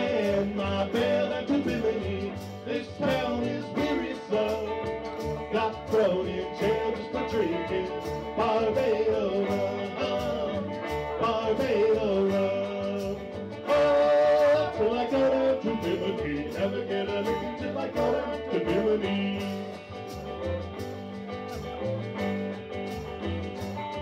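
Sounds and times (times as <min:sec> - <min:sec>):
drum kit: 0:00.0 - 0:24.0
electric guitar: 0:00.0 - 0:24.0.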